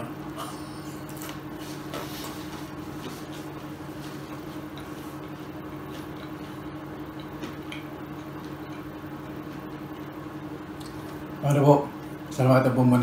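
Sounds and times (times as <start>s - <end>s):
low two-pitch hum: 0.0s - 13.0s.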